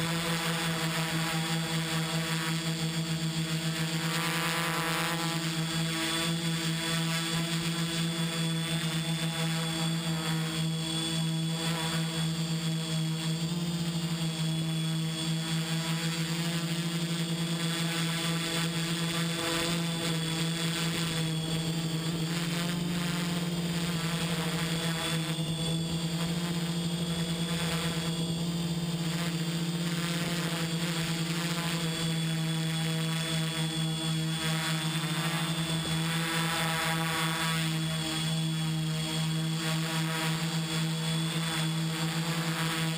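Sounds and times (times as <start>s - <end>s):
drone motors and propellers buzzing: 0.0s - 42.9s.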